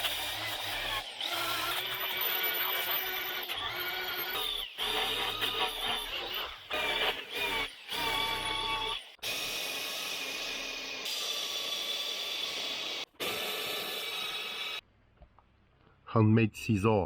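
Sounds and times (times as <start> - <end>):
power tool high whine: 0.0 - 14.8.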